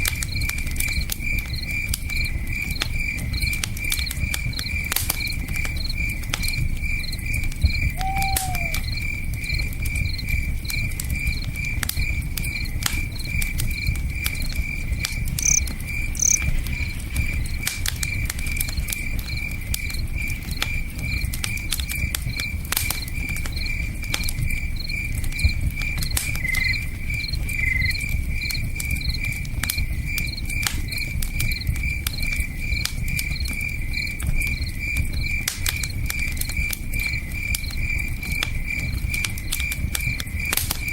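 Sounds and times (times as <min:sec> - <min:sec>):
crickets chirping: 0:00.0 - 0:40.6
campfire crackling and popping: 0:00.0 - 0:40.9.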